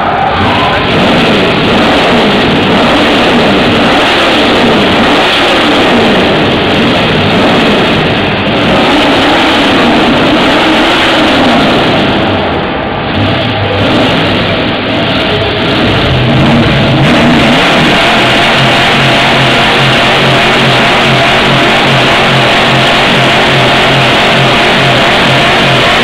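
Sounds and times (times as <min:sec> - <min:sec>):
car engine revving: 0:00.0 - 0:26.0
loud exhaust rumble: 0:00.0 - 0:26.0.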